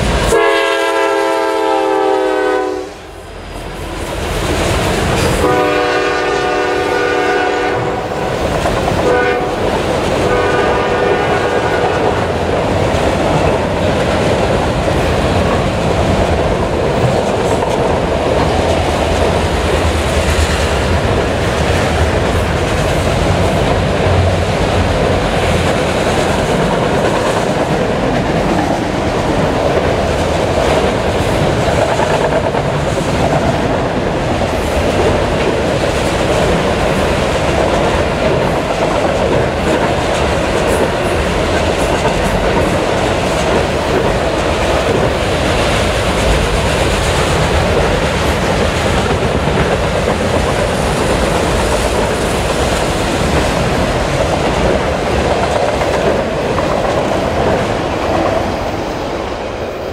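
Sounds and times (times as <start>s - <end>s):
steel wheels clattering on rails: 8.2s - 58.8s.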